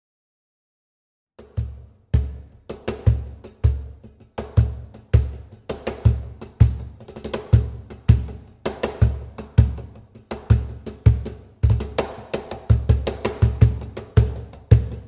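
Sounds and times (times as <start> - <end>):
cajon played by hand: 1.4 - 15.0.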